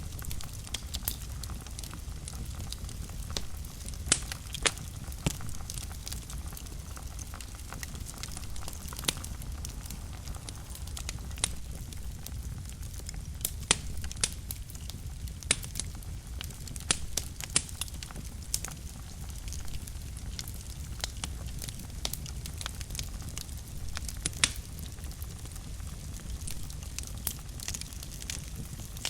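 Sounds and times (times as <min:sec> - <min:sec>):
burning logs crackling and popping: 0:00.0 - 0:29.0
fire flames rumbling: 0:00.0 - 0:29.0.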